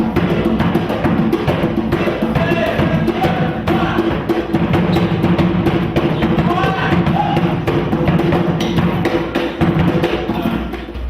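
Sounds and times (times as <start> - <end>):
quick drum strokes: 0.0 - 11.0.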